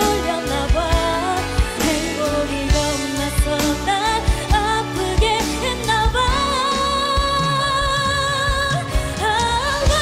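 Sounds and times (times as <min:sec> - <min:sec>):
woman singing with vibrato: 0:00.0 - 0:10.0.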